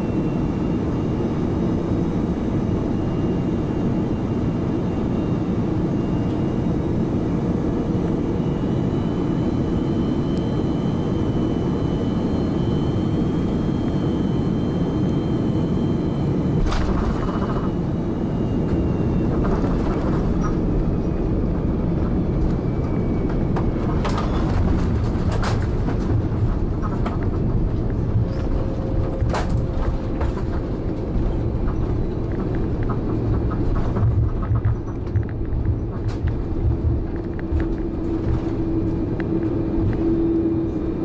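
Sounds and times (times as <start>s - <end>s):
aircraft cabin rumble: 0.0s - 41.0s
jet engines whining: 0.0s - 41.0s.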